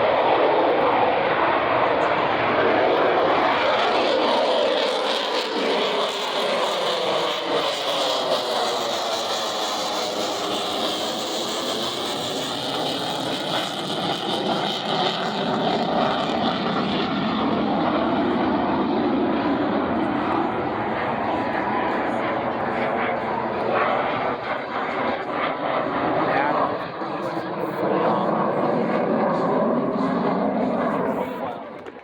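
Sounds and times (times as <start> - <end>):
fighter jet engines passing: 0.0 - 32.0.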